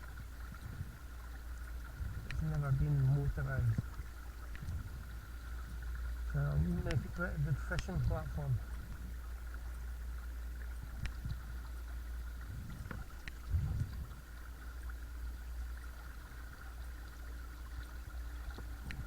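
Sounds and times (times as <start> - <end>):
water moving along hull: 0.0 - 19.0.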